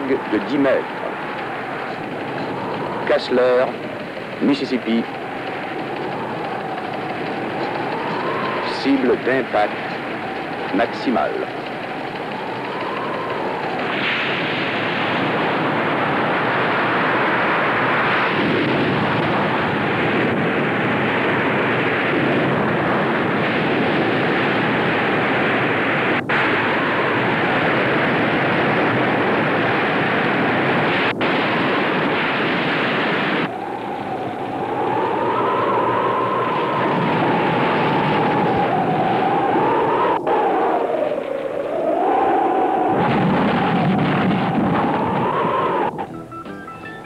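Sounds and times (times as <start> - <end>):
hurricane wind rushing: 0.0 - 47.0.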